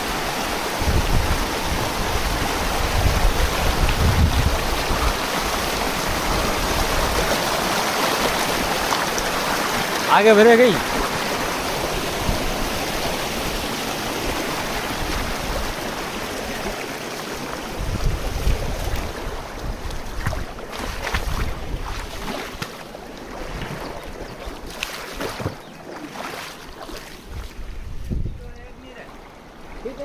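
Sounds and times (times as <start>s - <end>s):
wind gusting on microphone: 0.0s - 10.0s, 10.6s - 16.8s, 17.6s - 22.6s, 26.7s - 29.8s
flowing water rushing: 0.0s - 27.9s, 28.7s - 30.0s.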